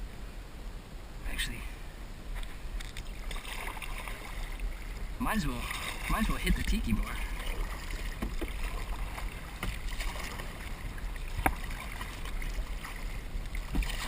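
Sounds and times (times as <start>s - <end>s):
water sounds: 0.0s - 14.0s.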